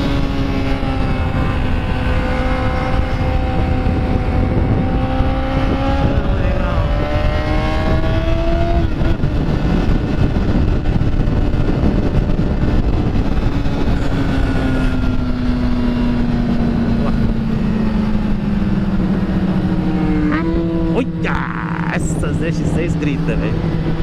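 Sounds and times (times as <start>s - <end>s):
motorcycle engine: 0.0s - 24.0s
wind rush on microphone: 0.0s - 24.0s.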